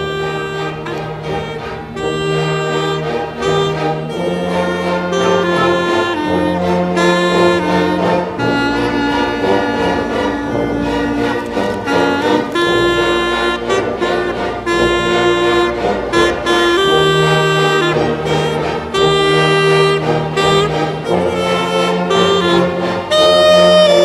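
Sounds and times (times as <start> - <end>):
orchestra playing: 0.0 - 24.0.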